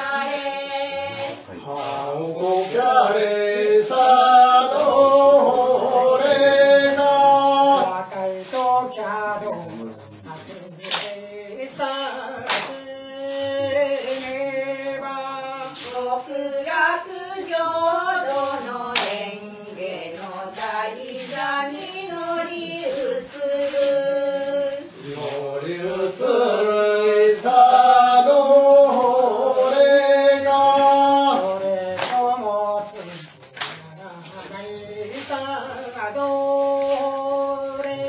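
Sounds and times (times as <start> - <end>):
group singing in long sliding notes: 0.0 - 38.0.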